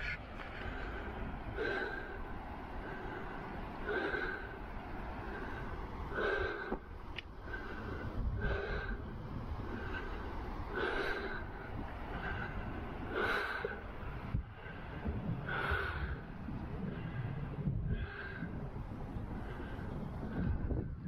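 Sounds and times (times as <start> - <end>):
person breathing heavily: 0.0 - 21.0
wind rumble on microphone: 0.0 - 21.0.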